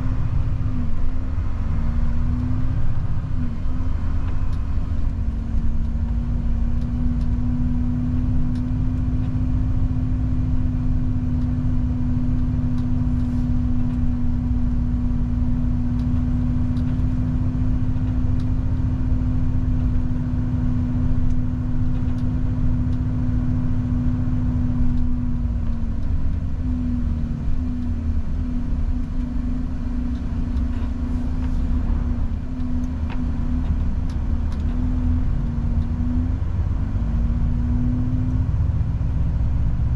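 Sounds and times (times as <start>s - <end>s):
road rumble: 0.0s - 39.9s
truck engine drone: 0.0s - 39.9s.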